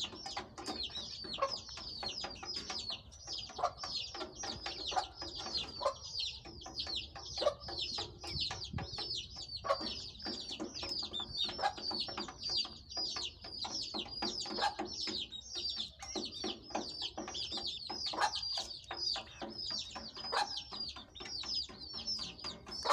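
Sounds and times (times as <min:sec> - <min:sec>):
chicks peeping: 0:00.0 - 0:22.9
low clucking calls: 0:00.0 - 0:22.9.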